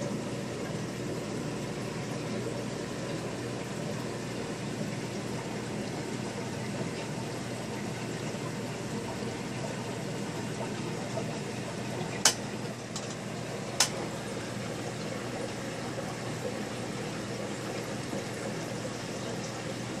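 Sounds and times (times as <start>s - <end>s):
aquarium water bubbling: 0.0s - 20.0s.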